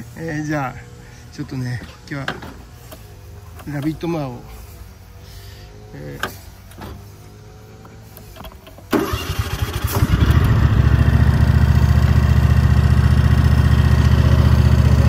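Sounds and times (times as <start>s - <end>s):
lawn mower engine starting: 2.1s - 15.0s.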